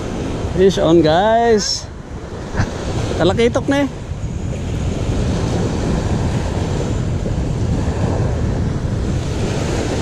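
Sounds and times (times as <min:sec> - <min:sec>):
small waves breaking on beach: 0:00.0 - 0:10.0
wind buffeting microphone: 0:00.0 - 0:10.0.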